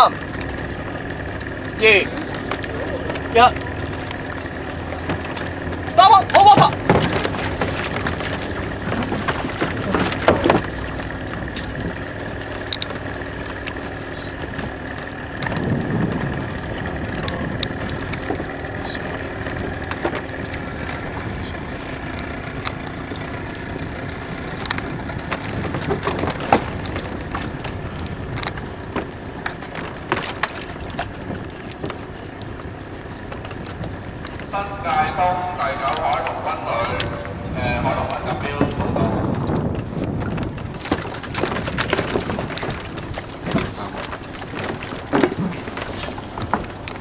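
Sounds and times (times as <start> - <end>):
low rumble: 0.0 - 47.0
oars and boat knocking and creaking: 0.0 - 47.0
water noise: 0.0 - 47.0
wind: 0.0 - 47.0
sharp clicks: 0.1 - 47.0.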